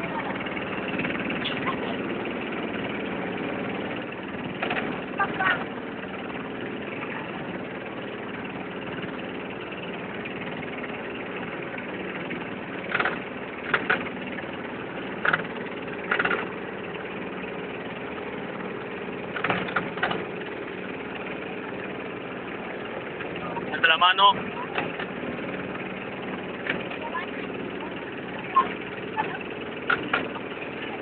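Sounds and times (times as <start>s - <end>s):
outboard engine running: 0.0s - 31.0s.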